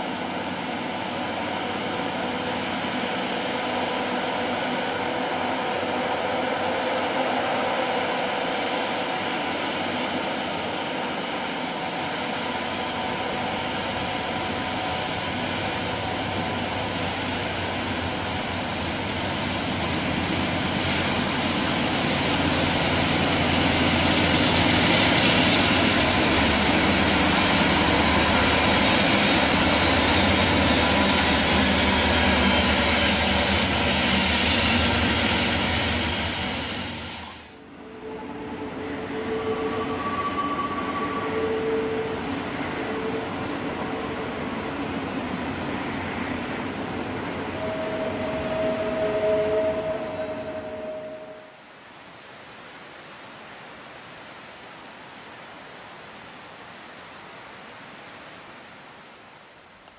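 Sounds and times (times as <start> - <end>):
diesel locomotives passing: 0.0 - 51.7.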